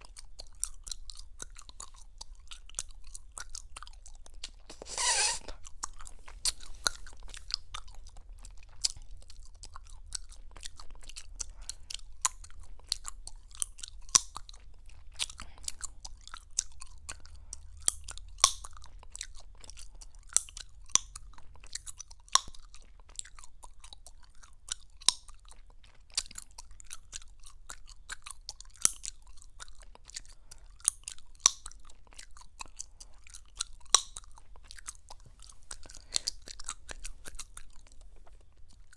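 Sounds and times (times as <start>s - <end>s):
gum chewing: 0.0s - 38.9s
gum popping: 0.0s - 38.9s.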